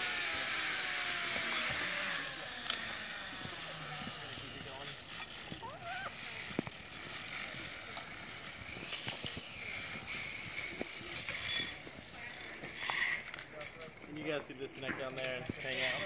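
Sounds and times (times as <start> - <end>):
zipline pulleys whirring on cable: 0.0 - 14.3, 15.2 - 16.0.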